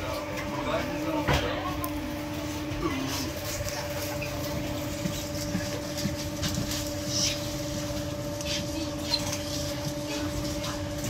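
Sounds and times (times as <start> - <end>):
train electrical hum: 0.0 - 11.0.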